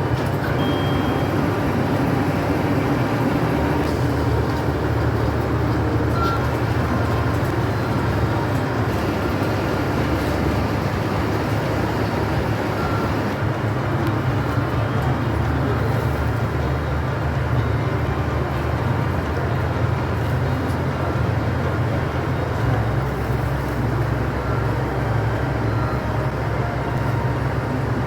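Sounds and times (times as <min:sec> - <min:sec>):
diesel railcar rumble: 0:00.0 - 0:28.0.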